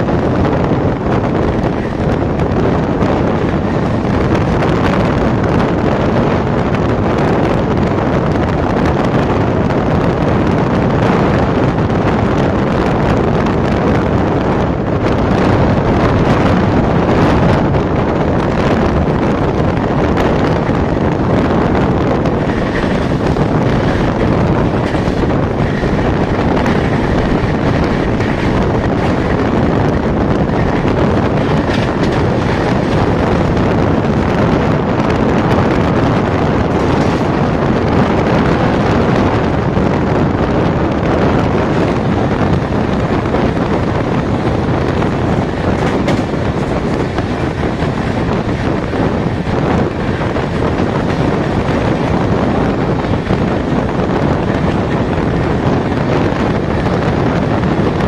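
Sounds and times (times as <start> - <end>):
train running noise: 0.0 - 58.0
wind buffeting microphone: 0.0 - 58.0.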